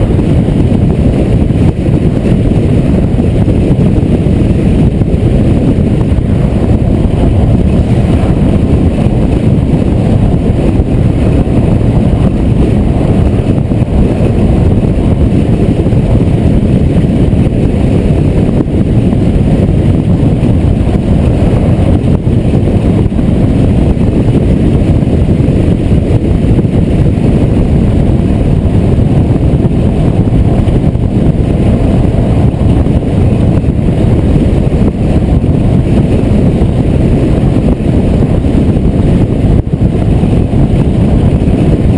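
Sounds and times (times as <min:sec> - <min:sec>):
car driving at highway speed: 0:00.0 - 0:41.9
wind noise: 0:00.0 - 0:41.9.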